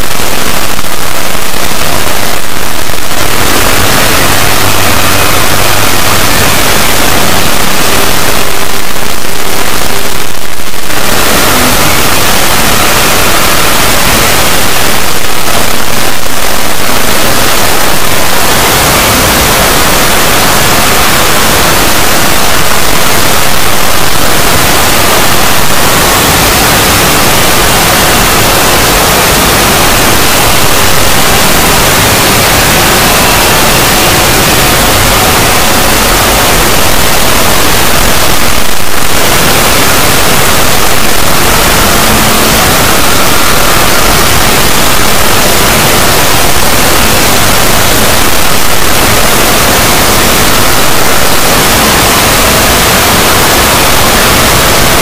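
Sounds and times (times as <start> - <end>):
static hiss: 0.0 - 55.0.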